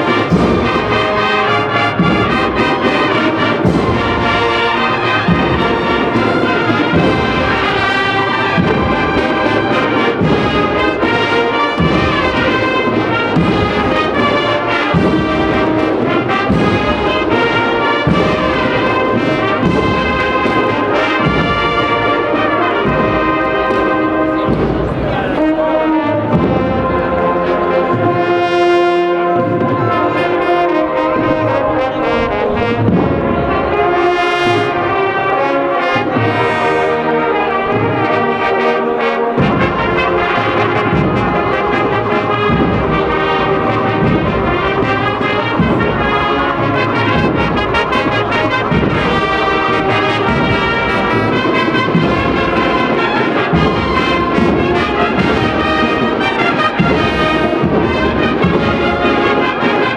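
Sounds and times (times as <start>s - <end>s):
steady drum beat: 0.0s - 28.5s, 29.4s - 59.9s
brass band playing a march: 0.0s - 59.9s.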